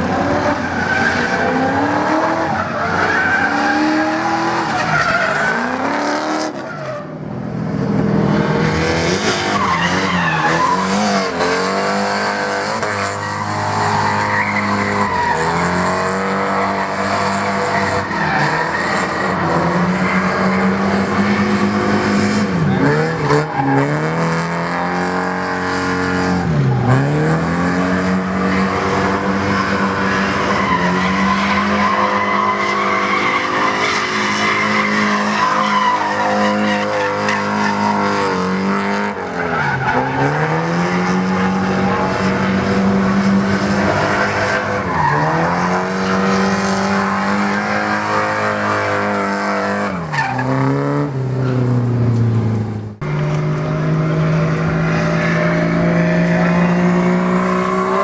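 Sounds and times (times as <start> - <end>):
car engine revving high: 0.0 - 6.7, 7.7 - 58.0
tyres skidding and squealing: 0.0 - 58.0.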